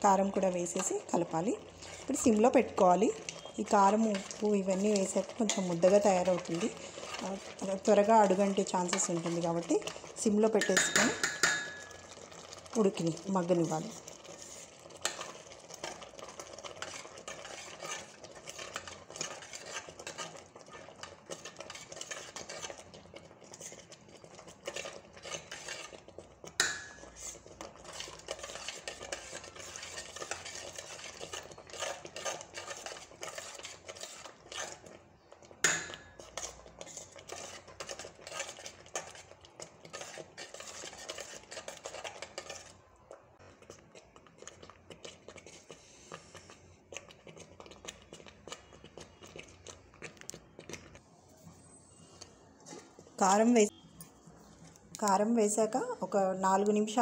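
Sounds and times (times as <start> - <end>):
ladle stirring in steel pot: 0.0 - 57.0.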